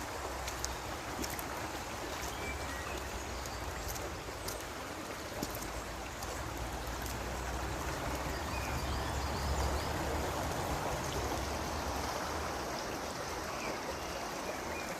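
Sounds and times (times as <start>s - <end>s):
river water rushing: 0.0s - 14.9s.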